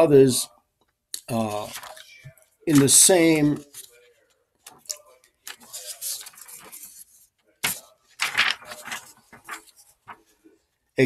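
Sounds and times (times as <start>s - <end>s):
paper rustling: 1.4s - 10.5s.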